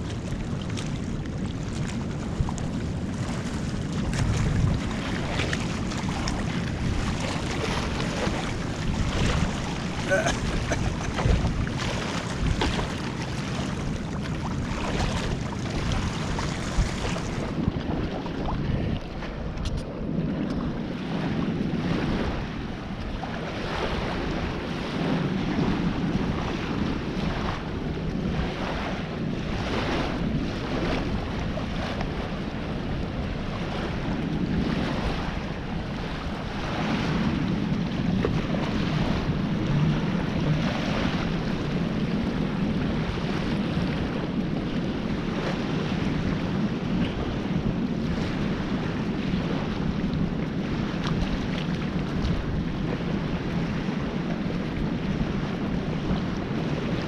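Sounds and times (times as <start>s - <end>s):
small waves washing on beach: 0.0s - 57.0s
wind buffeting microphone: 0.0s - 57.0s.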